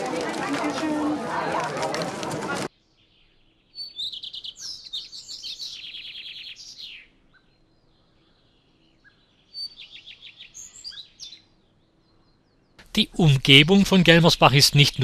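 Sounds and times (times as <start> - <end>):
songbird singing: 2.7 - 15.0.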